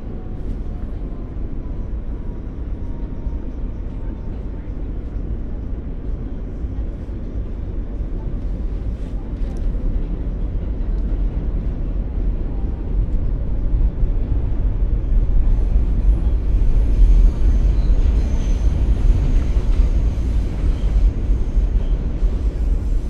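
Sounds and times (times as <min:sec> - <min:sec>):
subway train rumbling: 0:00.0 - 0:23.0.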